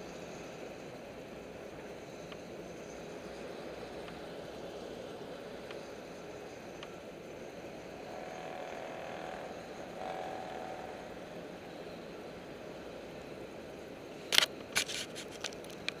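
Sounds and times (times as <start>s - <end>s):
street noise: 0.7s - 16.0s.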